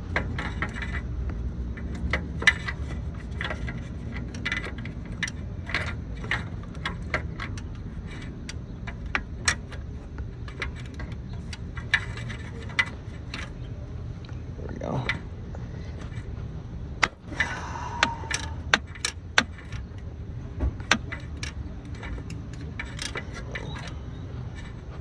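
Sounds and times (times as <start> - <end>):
ratchet and socket clicking: 0.0 - 13.7, 17.0 - 25.0
steady low rumble: 0.0 - 25.0.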